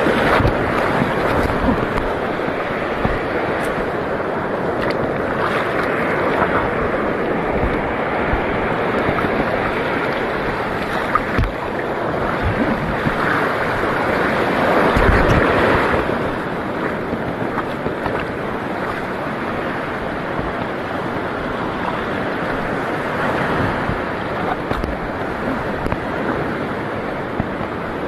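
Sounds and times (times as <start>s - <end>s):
sea water washing: 0.0s - 28.0s
wind buffeting microphone: 0.0s - 28.0s.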